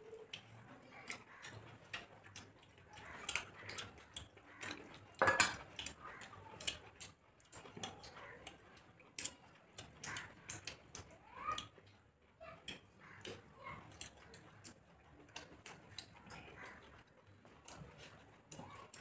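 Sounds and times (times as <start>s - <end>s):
wet chewing smacks: 0.1s - 12.0s, 12.6s - 19.0s.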